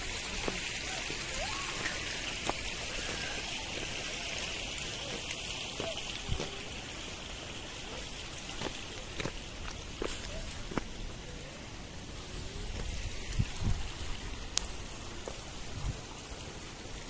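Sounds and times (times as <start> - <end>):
stream water hissing: 0.0 - 17.0.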